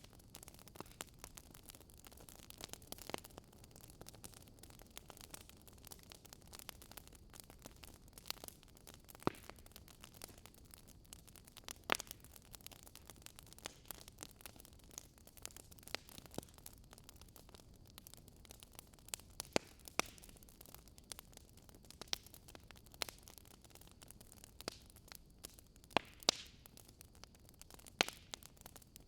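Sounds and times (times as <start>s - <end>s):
faint steady hiss: 0.0s - 29.0s
fire crackling and popping: 0.0s - 29.0s.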